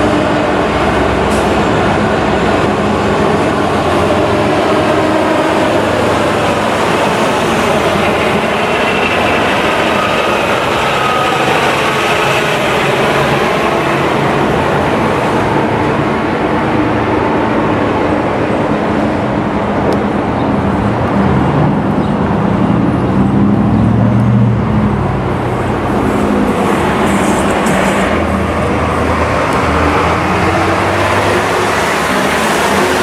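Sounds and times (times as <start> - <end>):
freight train rumbling: 0.0 - 33.0
locomotive engines humming: 0.0 - 33.0.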